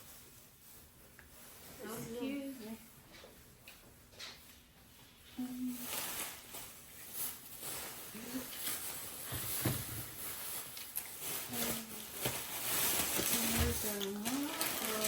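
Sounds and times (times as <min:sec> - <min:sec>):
plastic bags rustling: 0:00.0 - 0:02.9, 0:05.1 - 0:15.0.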